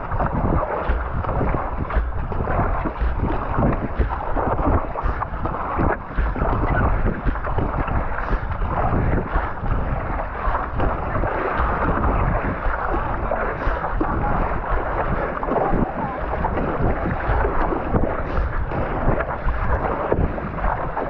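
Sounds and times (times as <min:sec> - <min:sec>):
water splashing: 0:00.0 - 0:21.0
wind rumbling on microphone: 0:00.0 - 0:21.0.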